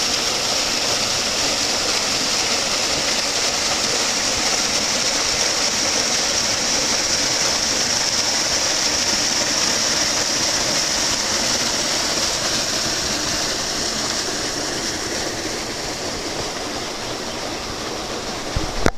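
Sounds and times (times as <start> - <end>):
water pouring over waterfall: 0.0 - 18.9.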